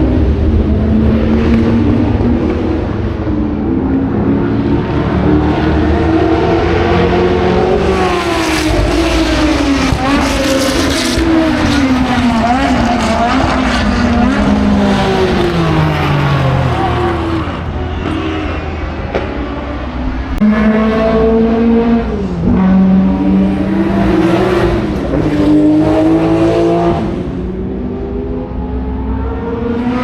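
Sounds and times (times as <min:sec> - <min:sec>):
racing car engines accelerating: 0:00.0 - 0:30.0.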